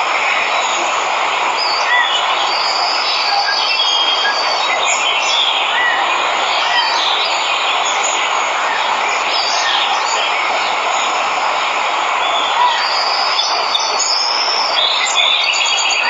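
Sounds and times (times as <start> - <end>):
waterfall rushing: 0.0 - 16.0
birds chirping: 0.4 - 16.0.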